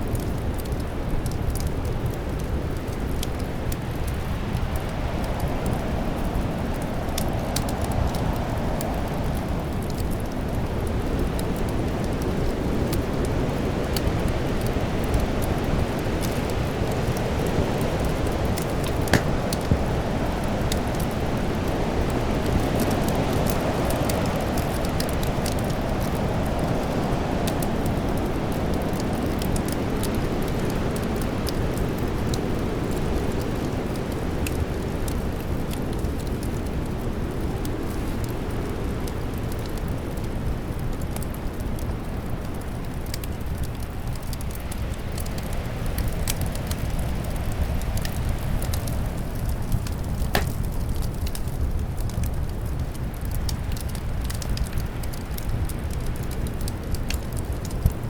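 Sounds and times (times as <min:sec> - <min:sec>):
wind: 0:00.0 - 0:58.0
wood fire crackling: 0:00.0 - 0:58.0.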